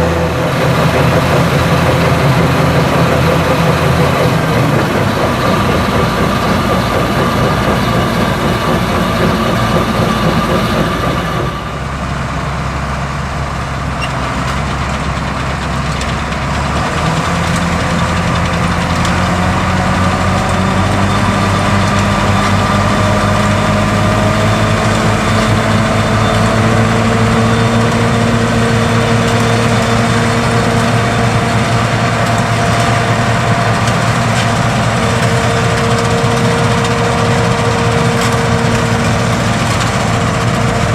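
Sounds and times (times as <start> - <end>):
combine diesel engine running: 0.0 - 40.9.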